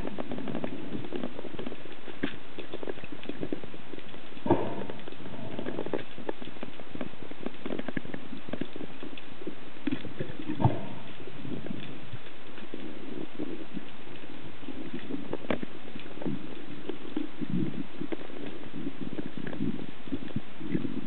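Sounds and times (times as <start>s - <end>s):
small clicks and knocks: 0.0s - 21.0s.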